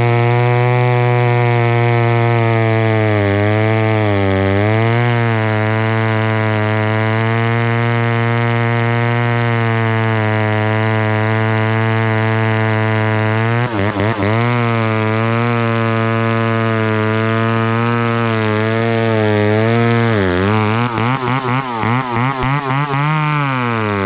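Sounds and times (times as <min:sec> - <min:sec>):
chainsaw running at high speed: 0:00.0 - 0:24.0.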